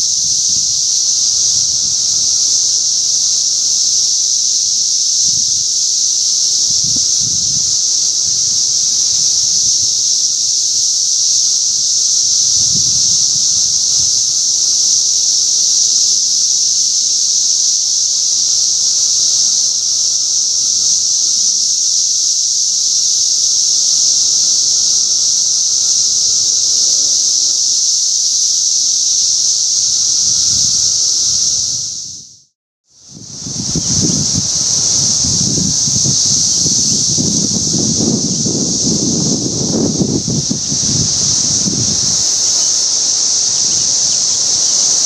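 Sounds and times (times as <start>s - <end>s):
cicadas high-pitched whine: 0.0s - 45.0s.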